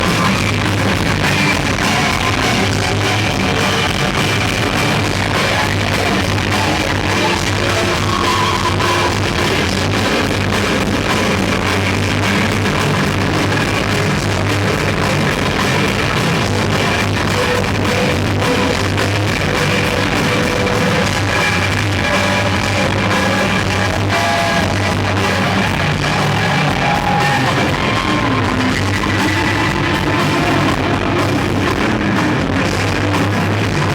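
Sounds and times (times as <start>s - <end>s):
rock band playing live: 0.0s - 33.9s.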